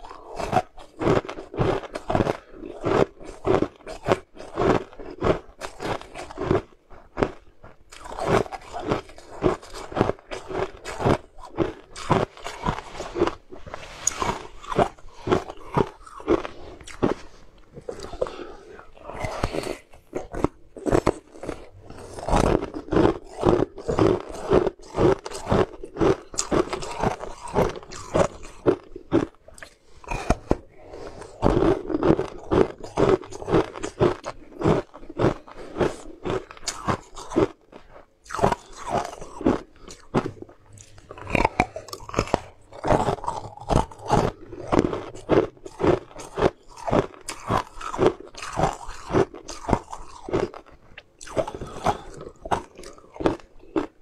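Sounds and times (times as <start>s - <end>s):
crisp crunching of candy: 0.0s - 54.0s
wet mouth sounds: 0.0s - 54.0s.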